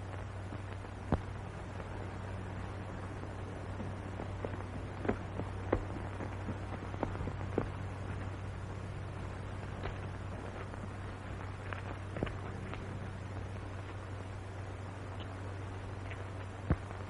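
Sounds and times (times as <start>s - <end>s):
film soundtrack hum and hiss: 0.0s - 17.0s.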